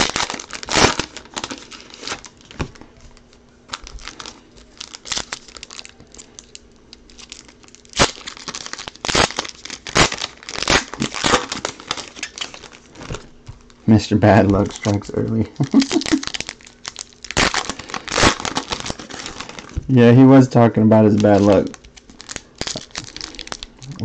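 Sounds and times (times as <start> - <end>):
foil wrapper tearing and crinkling: 0.0 - 13.8, 14.4 - 19.8, 20.9 - 24.0.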